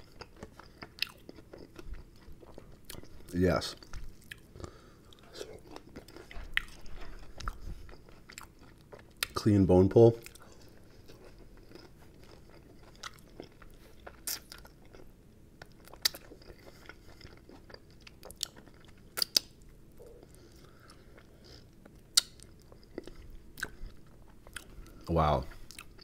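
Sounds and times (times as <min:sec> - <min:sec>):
chewing and mouth sounds: 0:00.0 - 0:09.4, 0:10.2 - 0:26.0.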